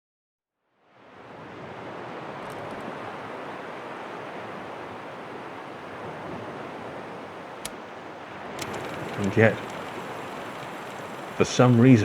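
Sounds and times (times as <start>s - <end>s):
surf washing on a shore: 0.8s - 12.0s.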